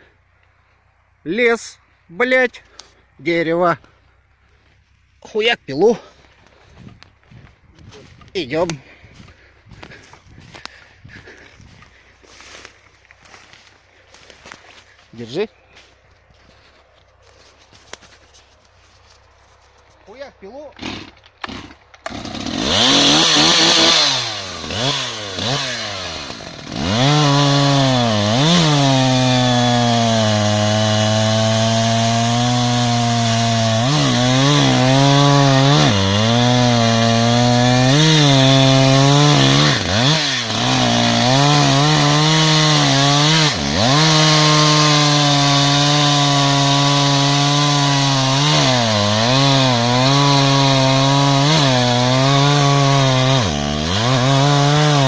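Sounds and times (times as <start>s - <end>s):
chainsaw sawing into tree: 5.8s - 19.3s, 19.9s - 55.0s.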